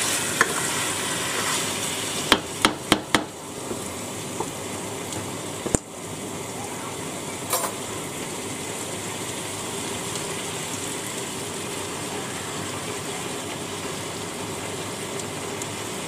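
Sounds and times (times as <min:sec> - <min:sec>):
meat and onions sizzling: 0:00.0 - 0:16.0.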